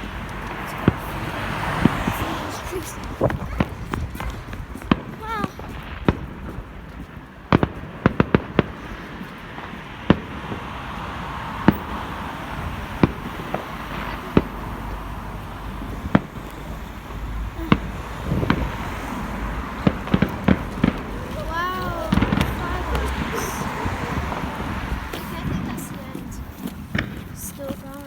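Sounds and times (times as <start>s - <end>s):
fireworks exploding: 0.0s - 28.0s.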